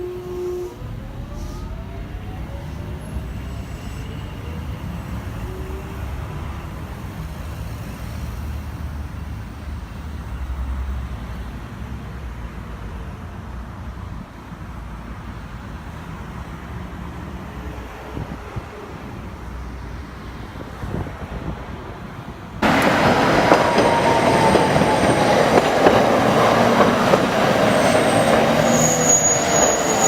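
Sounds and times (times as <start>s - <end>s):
tram rumbling on street track: 0.0s - 30.0s.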